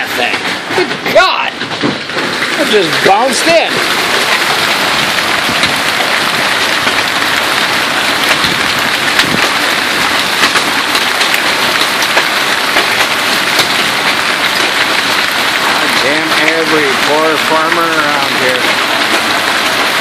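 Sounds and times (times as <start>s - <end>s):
hail clattering: 0.0s - 20.0s
hailstones cracking: 0.0s - 20.0s.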